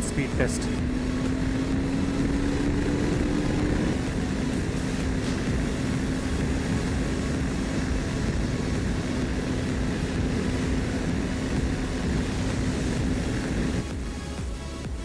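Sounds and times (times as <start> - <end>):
motorcycle engine at high revs: 0.0 - 14.5.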